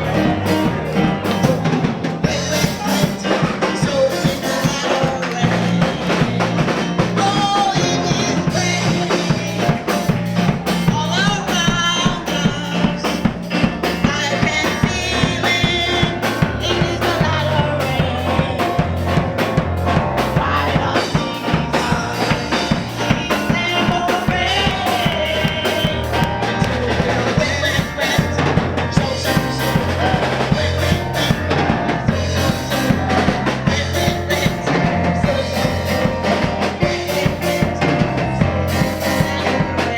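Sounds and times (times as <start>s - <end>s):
live gospel band playing: 0.0s - 39.9s.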